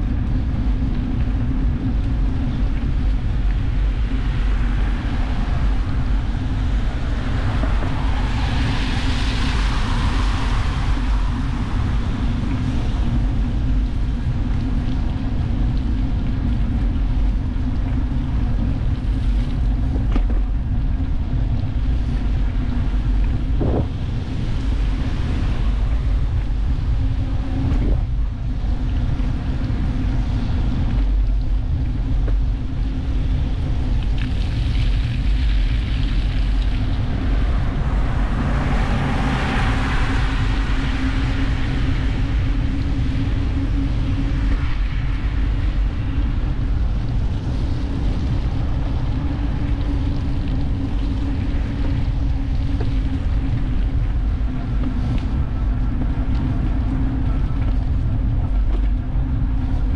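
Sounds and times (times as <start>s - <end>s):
low rumble and hum: 0.0s - 59.9s
wind rushing over microphone: 0.0s - 59.9s.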